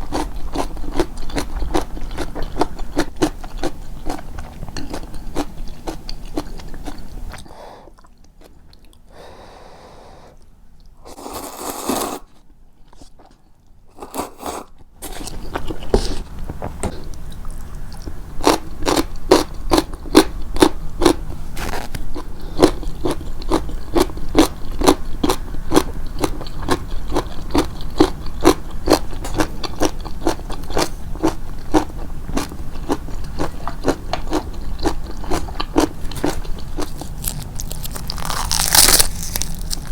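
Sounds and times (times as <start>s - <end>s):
chewing crunchy food: 0.0s - 9.1s, 10.4s - 39.9s.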